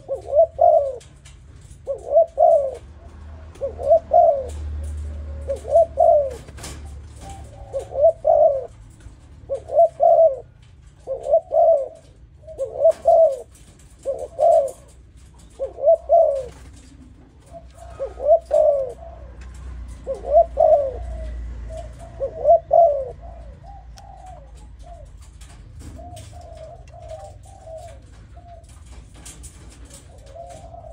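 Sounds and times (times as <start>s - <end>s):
dove cooing: 0.0s - 30.9s.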